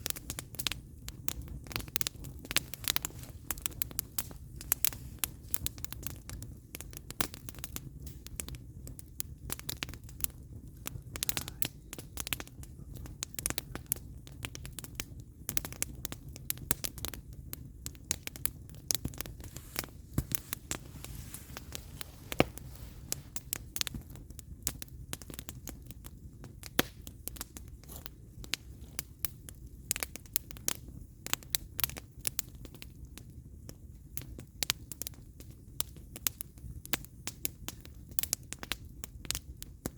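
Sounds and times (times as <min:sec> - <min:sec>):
firewood crackling and popping: 0:00.0 - 0:39.9
low steady fire rumble: 0:00.0 - 0:39.9.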